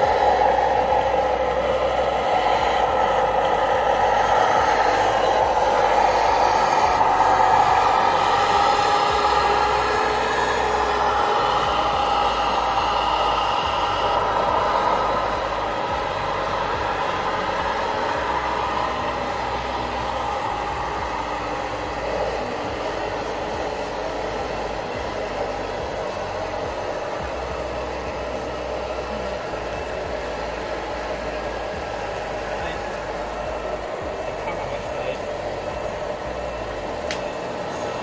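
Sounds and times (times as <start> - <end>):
rc model trucks running: 0.0 - 38.0.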